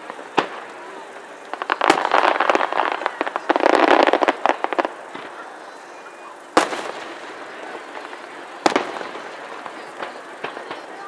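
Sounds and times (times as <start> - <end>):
firework shells crackling pops: 0.0 - 5.6, 6.4 - 11.0.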